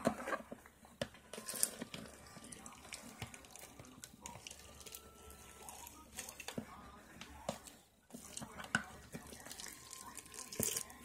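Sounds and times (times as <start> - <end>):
slime squelching by hand: 1.4 - 11.0.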